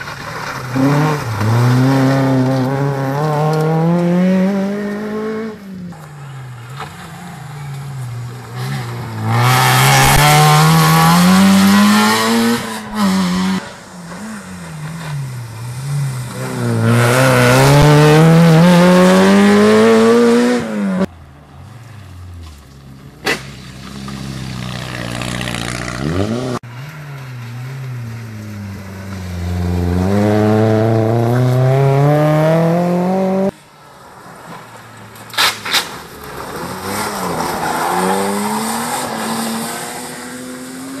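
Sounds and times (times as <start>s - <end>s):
rally car engines accelerating: 0.0s - 34.6s, 35.2s - 41.0s.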